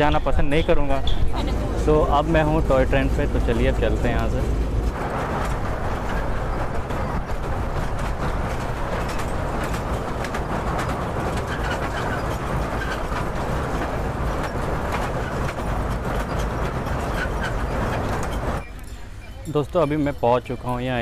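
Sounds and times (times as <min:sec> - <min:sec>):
carriages rattling on rails: 0:00.0 - 0:21.0
toy train rumbling: 0:01.4 - 0:21.0.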